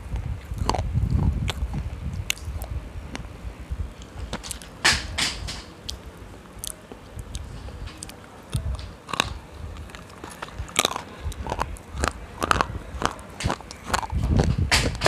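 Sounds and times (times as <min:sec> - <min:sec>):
biting and crunching chalk: 0:00.0 - 0:03.3, 0:04.0 - 0:15.0.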